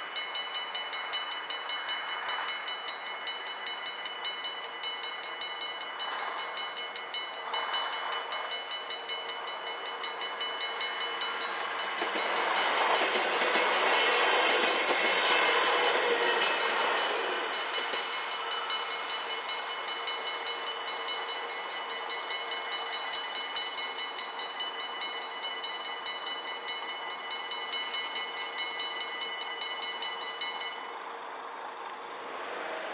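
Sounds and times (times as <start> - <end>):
level-crossing warning bells ringing: 0.0 - 31.8
electric train rumble: 0.0 - 32.9.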